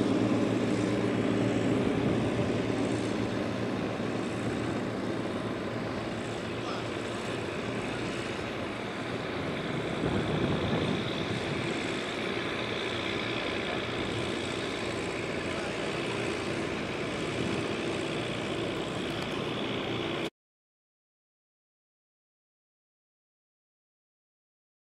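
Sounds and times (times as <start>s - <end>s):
water wash noise: 0.0s - 20.2s
boat engine running: 0.0s - 20.3s.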